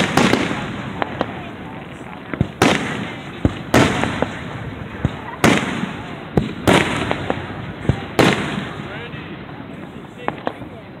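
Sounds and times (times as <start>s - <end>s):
sharp firework pops: 0.0s - 9.0s, 9.7s - 10.8s
firework booms echoing: 0.0s - 10.8s.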